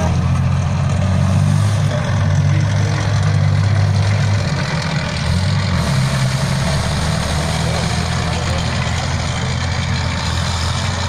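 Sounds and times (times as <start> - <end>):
tracked vehicle engine drone: 0.0 - 11.0.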